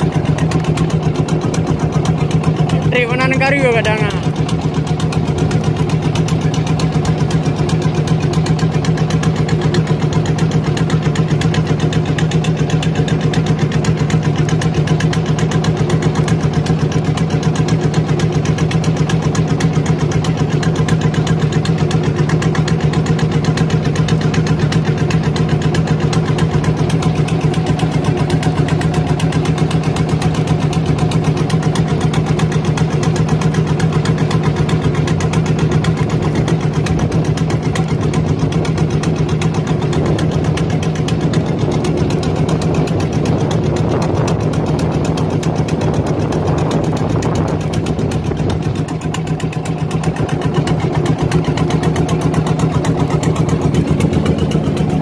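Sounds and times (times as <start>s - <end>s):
boat engine running steadily: 0.0s - 55.0s.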